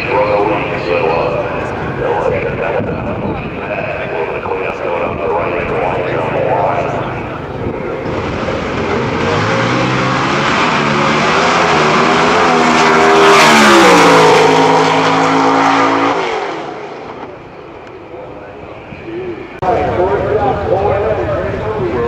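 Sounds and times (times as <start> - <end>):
race car accelerating: 0.0 - 22.0.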